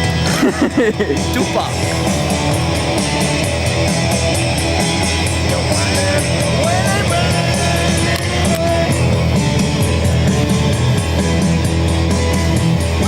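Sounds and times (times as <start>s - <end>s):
rock music with electric guitar: 0.0s - 13.0s
sliding guitar notes: 0.0s - 13.0s.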